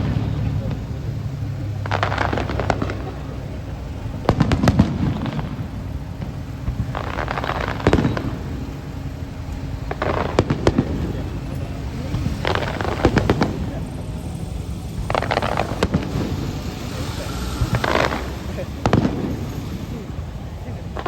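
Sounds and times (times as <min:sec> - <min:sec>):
firework shells bursting with crackling: 0:00.0 - 0:21.0.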